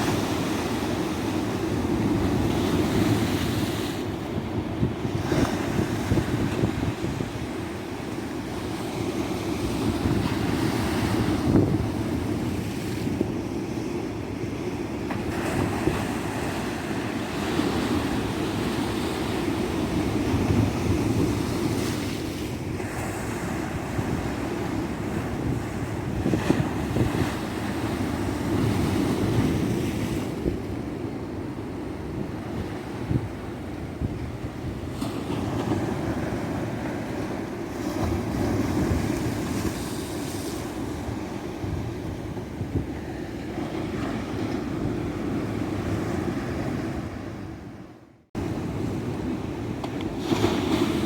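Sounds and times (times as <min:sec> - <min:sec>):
wind on microphone: 0:00.0 - 0:08.8, 0:09.4 - 0:13.4, 0:17.3 - 0:47.7
ocean waves breaking on beach: 0:00.0 - 0:51.0.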